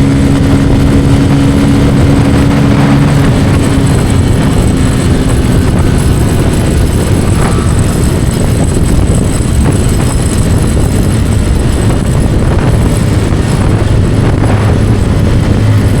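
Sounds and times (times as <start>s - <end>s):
motorcycle engine at high speed: 0.0s - 16.0s
wind buffeting microphone: 0.0s - 16.0s.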